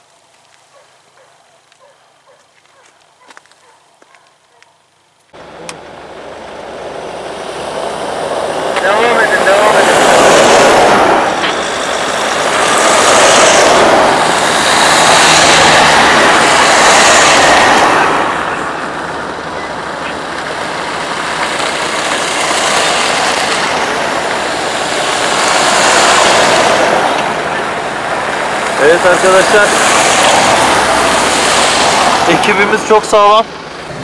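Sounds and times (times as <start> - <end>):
vehicle driving rushing noise: 5.4 - 34.0.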